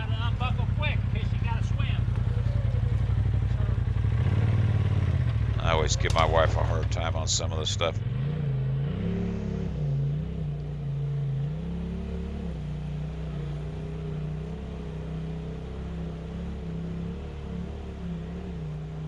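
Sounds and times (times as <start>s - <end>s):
vehicle engine running at low revs: 0.0s - 19.0s.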